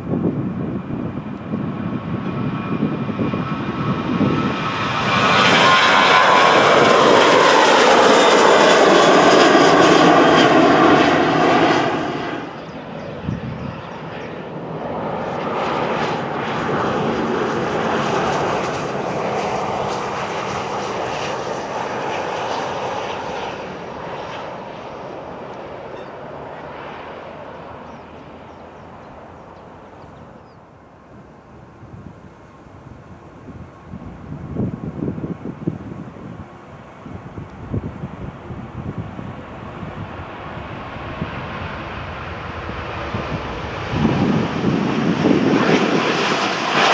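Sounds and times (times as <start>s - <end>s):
jet on landing approach: 0.0s - 46.9s
jet roaring on take-off: 0.1s - 30.4s, 31.2s - 46.9s.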